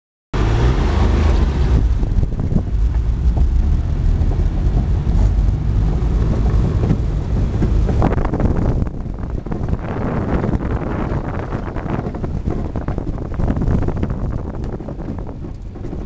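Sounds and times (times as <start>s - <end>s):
engine and tracks rumbling: 0.4s - 16.0s
knocks and rattles: 1.2s - 16.0s.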